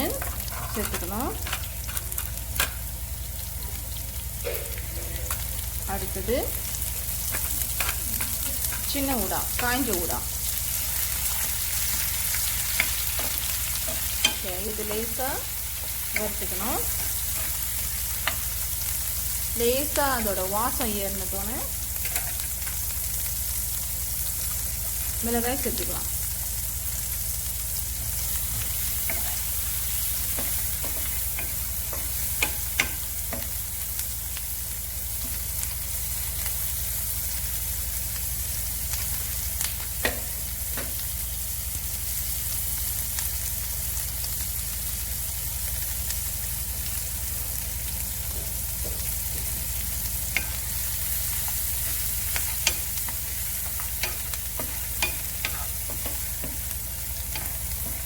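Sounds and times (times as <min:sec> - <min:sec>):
oil sizzling in a pan: 0:00.0 - 0:58.0.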